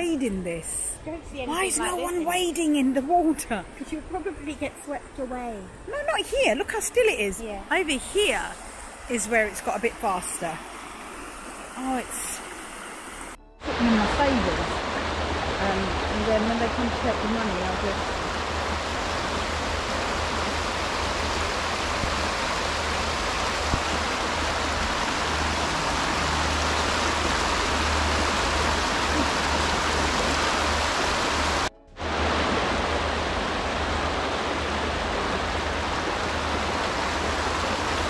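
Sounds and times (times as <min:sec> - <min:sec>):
river water rushing: 0:01.4 - 0:38.0.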